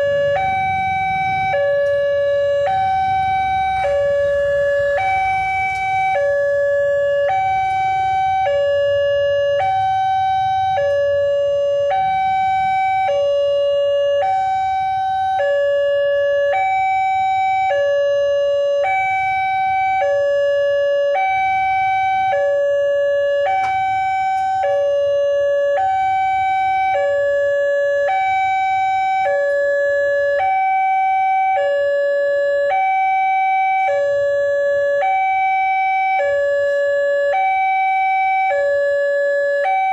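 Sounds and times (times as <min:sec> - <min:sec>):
two-tone level crossing siren: 0:00.0 - 0:39.9.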